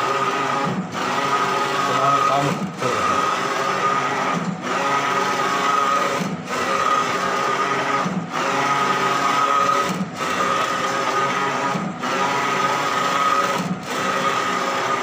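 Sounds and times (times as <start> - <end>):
printer carriage whine: 0.0 - 15.0.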